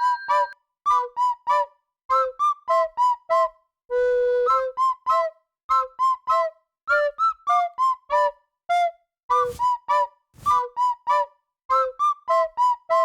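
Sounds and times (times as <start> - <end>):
bouncy flute-like melody: 0.0 - 13.0.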